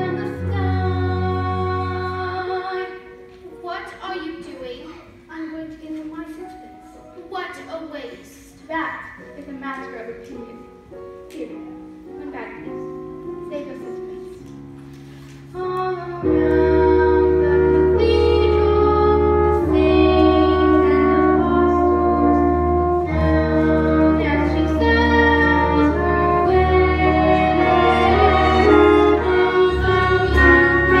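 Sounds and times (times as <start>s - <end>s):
slow instrumental music: 0.0s - 31.0s.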